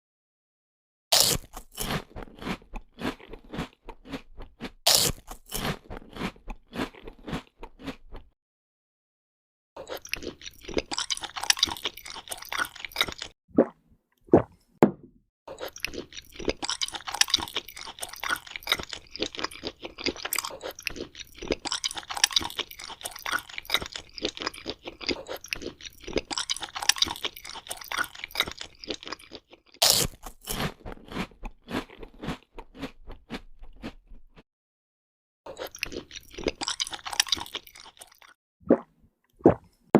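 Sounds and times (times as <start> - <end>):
person crunching fruit: 1.1 - 8.3, 9.8 - 13.4, 15.5 - 34.4, 35.5 - 38.8.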